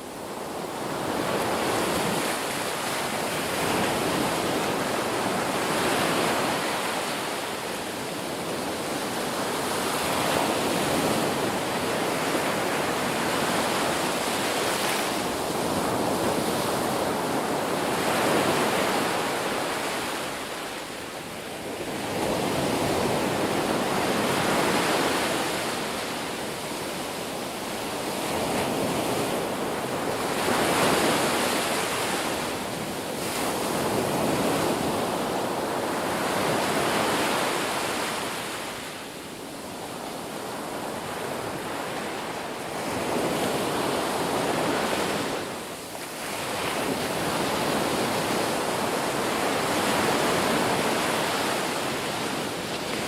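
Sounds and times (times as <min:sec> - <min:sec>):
waves breaking and washing in: 0:00.0 - 0:53.0.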